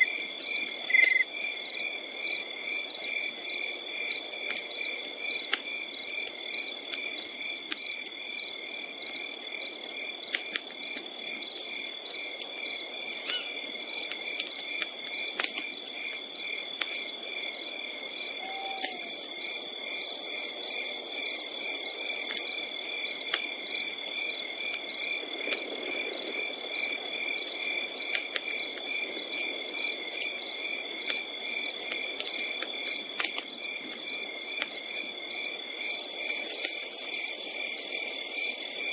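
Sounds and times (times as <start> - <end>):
high insect trill: 0.0 - 10.3, 14.6 - 38.9
campfire crackling and popping: 0.0 - 38.9
crickets chirping: 0.0 - 38.9.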